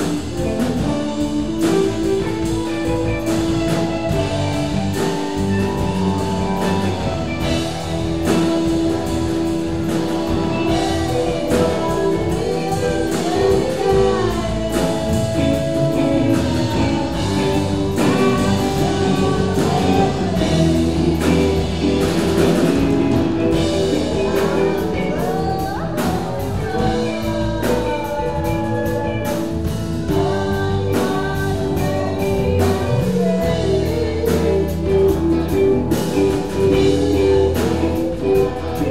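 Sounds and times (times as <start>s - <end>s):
drum kit: 0.0s - 38.9s
electric bass: 0.0s - 38.9s
electric guitars: 0.0s - 38.9s
keyboard: 0.0s - 38.9s
woman singing: 0.0s - 38.9s.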